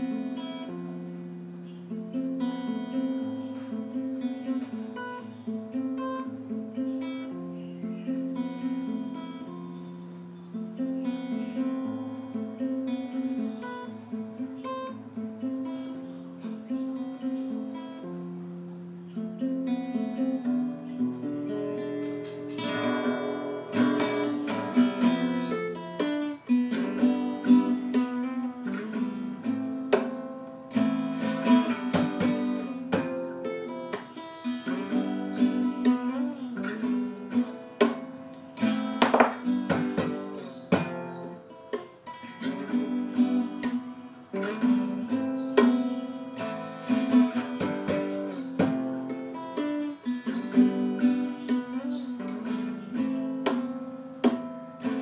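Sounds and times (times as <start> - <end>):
fingerstyle acoustic guitar: 0.0 - 55.0.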